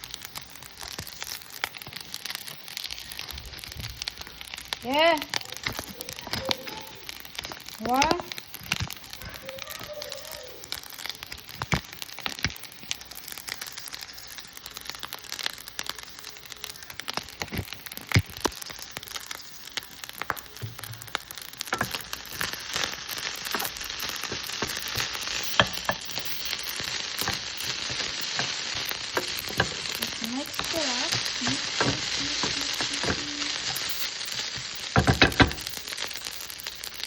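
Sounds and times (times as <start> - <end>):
rice sizzling in a pan: 0.0 - 37.0.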